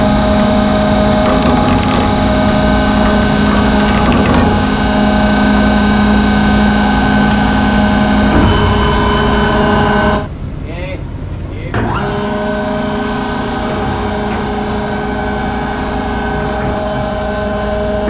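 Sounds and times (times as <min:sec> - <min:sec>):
electric winch motor humming: 0:00.0 - 0:10.3, 0:11.7 - 0:18.0.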